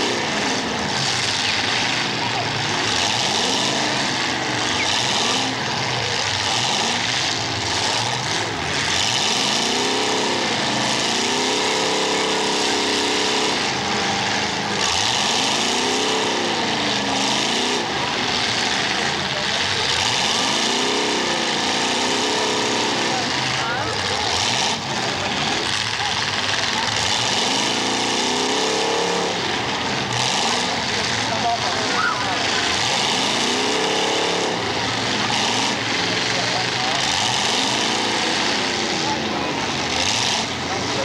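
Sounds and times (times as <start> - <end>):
constant engine din: 0.0 - 41.0
race cars passing: 0.0 - 41.0.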